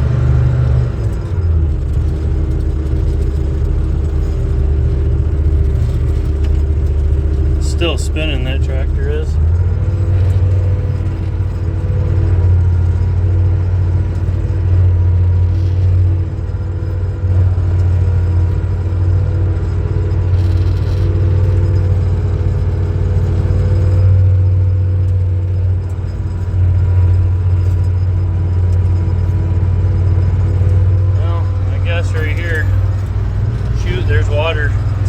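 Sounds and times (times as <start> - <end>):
tractor engine droning with whine: 0.0 - 35.0.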